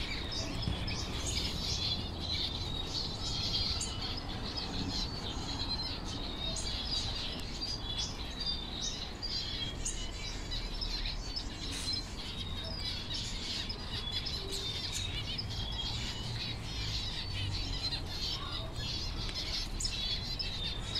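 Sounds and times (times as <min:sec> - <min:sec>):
small birds chirping and twittering: 0:00.0 - 0:20.9.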